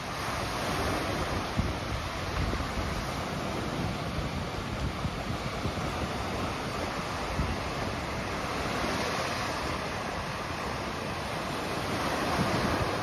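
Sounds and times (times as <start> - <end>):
waves breaking on rocks: 0.0 - 13.0
wind rumbling on microphone: 0.0 - 13.0.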